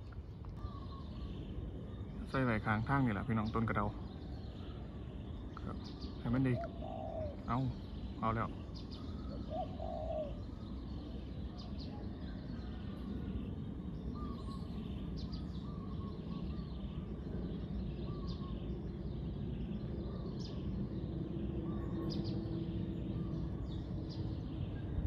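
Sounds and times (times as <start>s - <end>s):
low outdoor rumble: 0.0s - 25.0s
steady low hum: 0.0s - 25.0s
bird chirps and calls: 0.1s - 25.0s.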